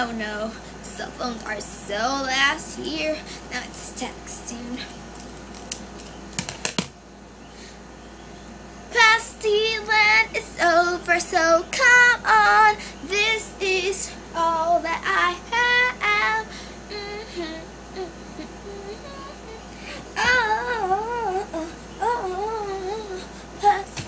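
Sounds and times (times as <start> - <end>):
girl singing with vibrato: 0.0 - 4.9, 8.9 - 24.0.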